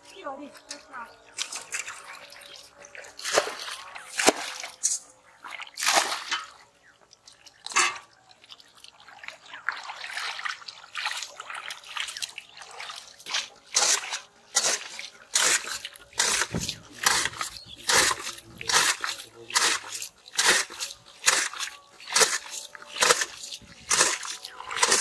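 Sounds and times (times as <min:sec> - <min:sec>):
hands splashing in muddy water: 0:01.4 - 0:04.9, 0:05.5 - 0:06.6, 0:08.8 - 0:25.0.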